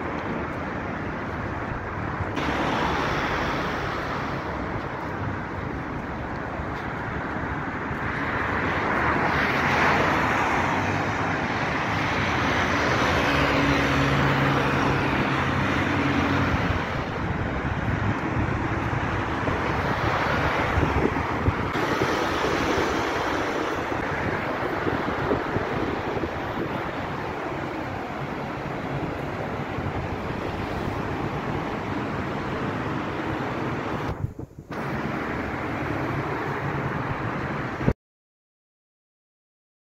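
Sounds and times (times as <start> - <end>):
cars passing: 0.0 - 37.9
vehicle engine humming: 0.0 - 37.9.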